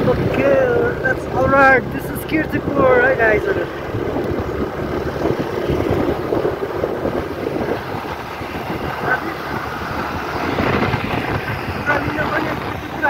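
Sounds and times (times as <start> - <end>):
engine rumble: 0.0 - 13.0
road noise: 0.0 - 13.0
wind buffeting microphone: 0.0 - 13.0.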